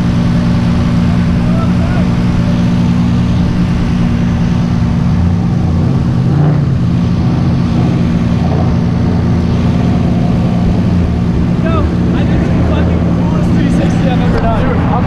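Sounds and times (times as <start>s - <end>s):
car engine running steadily: 0.0s - 15.0s.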